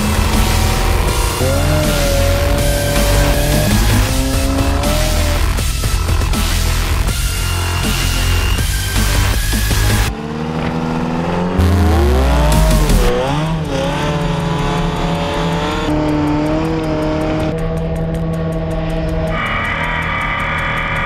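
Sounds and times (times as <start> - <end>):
diesel truck engine revving: 0.0 - 21.0.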